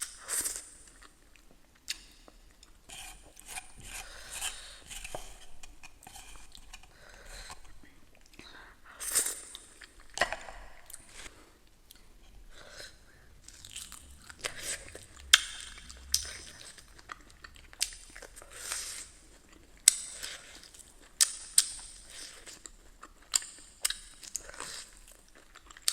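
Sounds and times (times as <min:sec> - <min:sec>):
crunchy chewing: 0:00.0 - 0:25.9.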